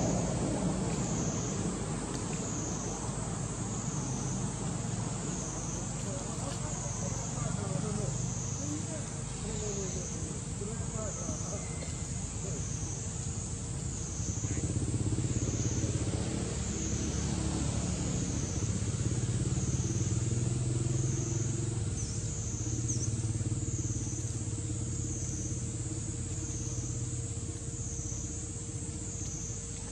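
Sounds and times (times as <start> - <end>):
engine idling: 0.0 - 29.9
high-pitched pulsing drone: 2.7 - 29.9.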